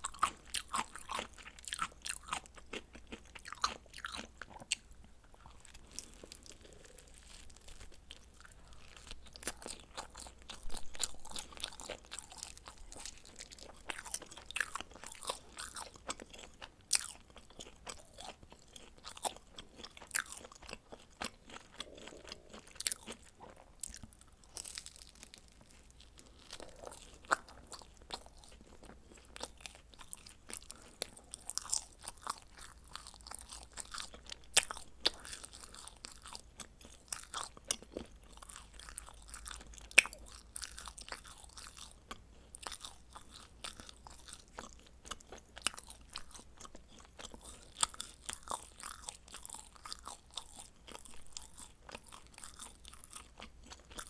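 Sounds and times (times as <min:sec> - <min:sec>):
person chewing crunchy pizza: 0:00.0 - 0:54.0.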